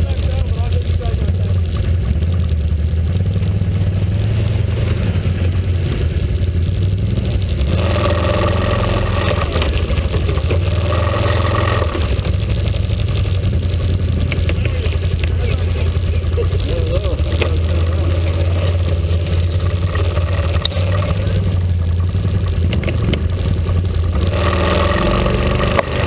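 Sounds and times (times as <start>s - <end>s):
atv driving past: 0.0s - 26.0s
atv engine droning: 0.0s - 26.0s.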